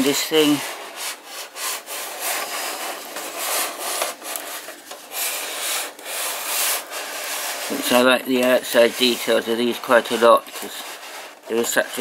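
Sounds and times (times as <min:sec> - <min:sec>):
toy base scraping on table: 0:00.0 - 0:12.0.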